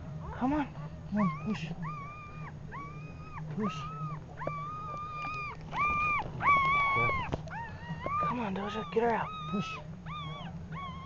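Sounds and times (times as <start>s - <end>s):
dog whining: 0.2s - 11.0s.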